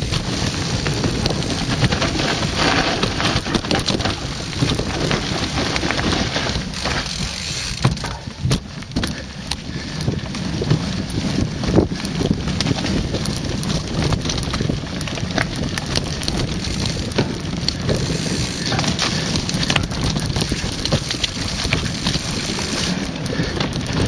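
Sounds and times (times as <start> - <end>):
mountain bike rattling: 0.0 - 24.0
wind buffeting microphone: 0.0 - 24.0.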